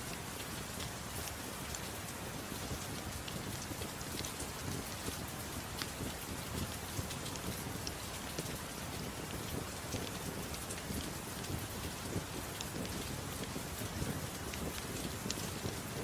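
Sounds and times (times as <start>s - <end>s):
soft rain: 0.0s - 16.0s
wood fire crackling: 0.3s - 16.0s.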